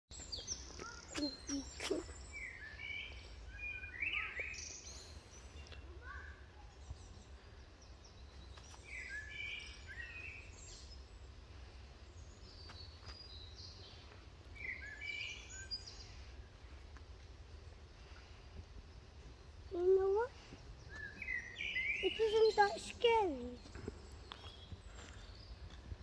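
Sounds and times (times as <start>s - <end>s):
songbirds chirping: 0.1s - 26.0s.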